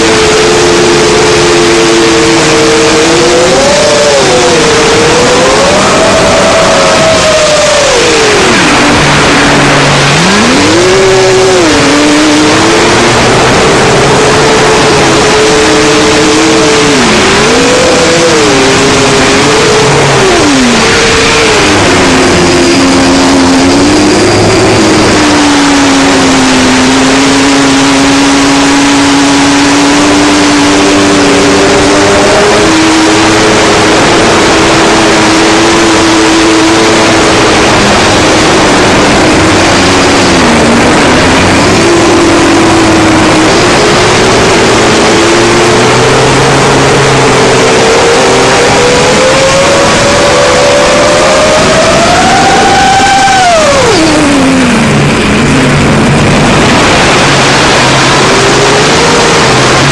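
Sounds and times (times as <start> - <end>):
drone motors whining: 0.0 - 59.9
loud rushing air: 0.0 - 59.9.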